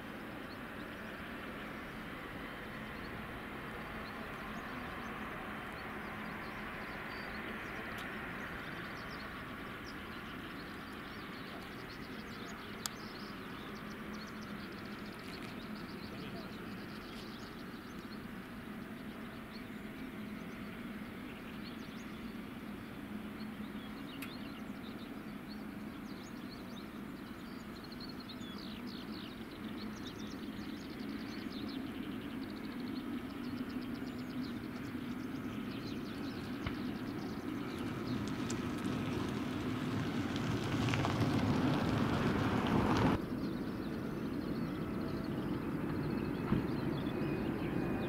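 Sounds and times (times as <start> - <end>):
jet engines rumbling: 0.0 - 26.1, 29.3 - 48.0
birds chirping faintly: 0.0 - 48.0.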